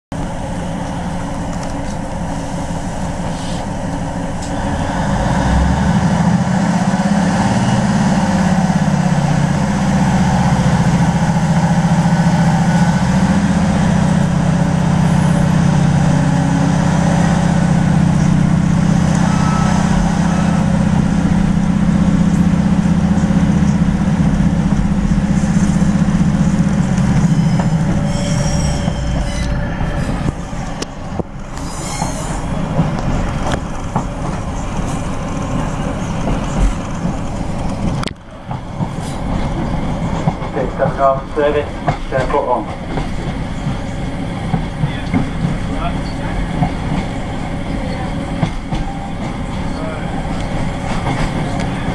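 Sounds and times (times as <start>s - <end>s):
train diesel engine pulling away: 0.2s - 51.9s
wheel-on-rail noise: 0.2s - 51.9s.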